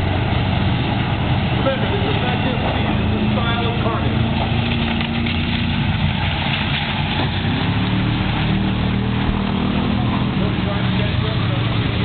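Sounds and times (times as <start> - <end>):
race car engines drone: 0.0 - 12.0.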